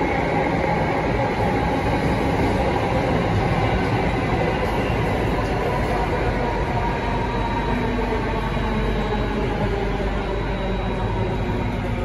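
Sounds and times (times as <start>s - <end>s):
metro train wheels rumbling: 0.0s - 12.0s.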